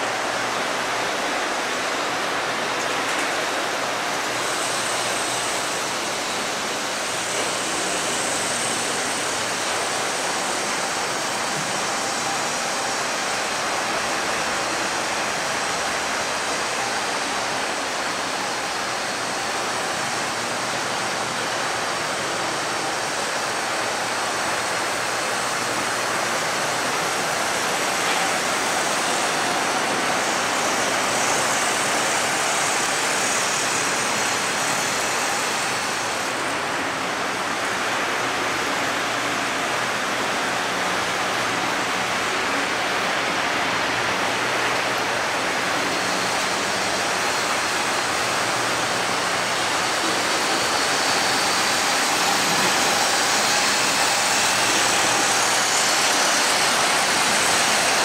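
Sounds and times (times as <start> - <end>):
model trains rumbling on tracks: 0.0 - 58.0.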